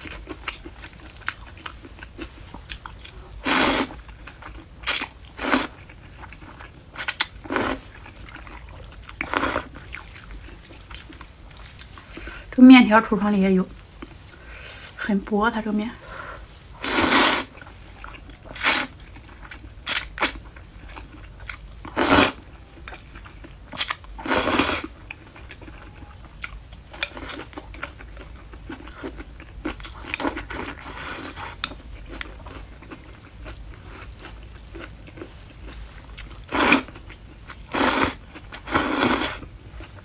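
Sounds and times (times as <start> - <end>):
crunchy chewing: 0.0 - 12.4, 16.7 - 40.0.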